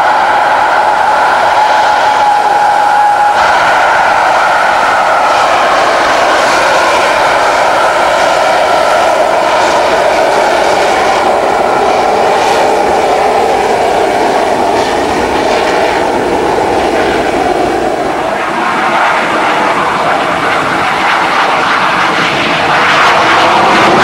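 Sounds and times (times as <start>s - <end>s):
jet engine in afterburner: 0.0s - 24.0s.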